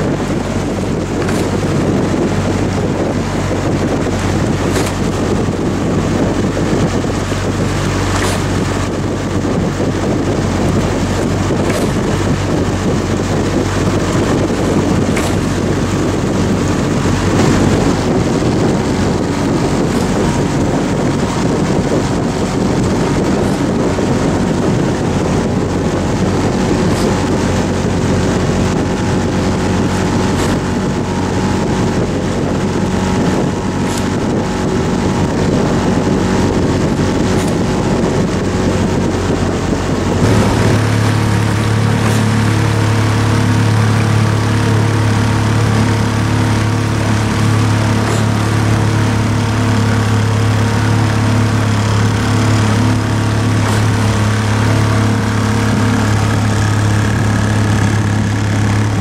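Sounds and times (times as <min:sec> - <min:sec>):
outboard engine running: 0:00.0 - 0:59.0
water noise: 0:00.0 - 0:59.0
wind: 0:00.0 - 0:59.0.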